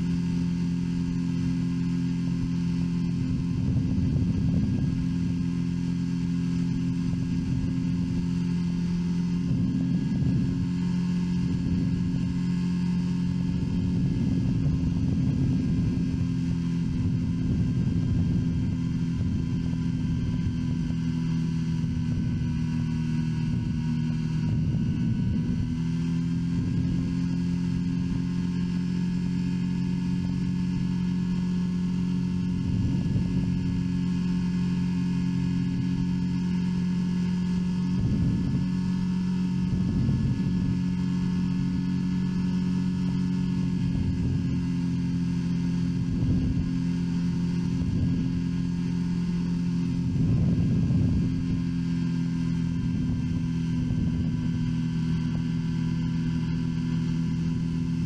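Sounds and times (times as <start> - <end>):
ultralight aircraft engine droning: 0.0 - 58.0
wind rumbling on microphone: 0.0 - 58.0.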